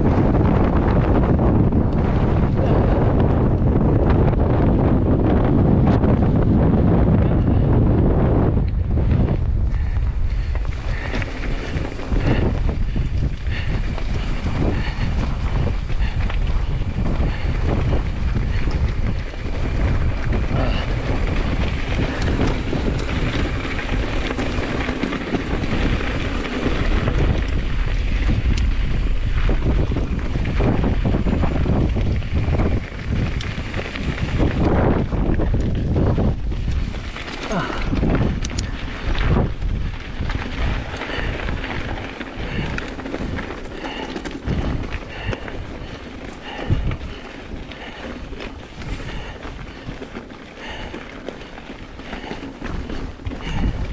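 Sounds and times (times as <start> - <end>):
bike clicks and rattles: 0.0 - 53.9
tyres on rough trail: 0.0 - 53.9
wind buffeting microphone: 0.0 - 53.9.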